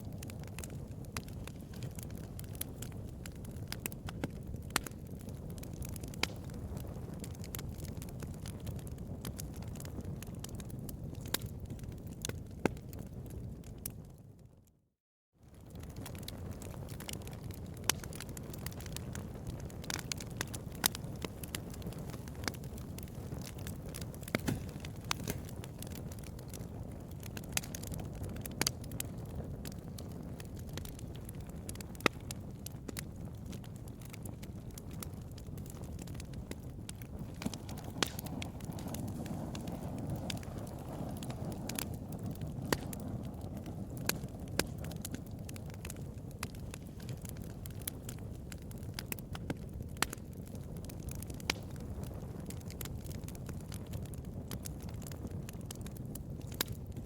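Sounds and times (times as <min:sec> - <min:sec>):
bonfire crackling: 0:00.0 - 0:14.7, 0:15.4 - 0:57.0.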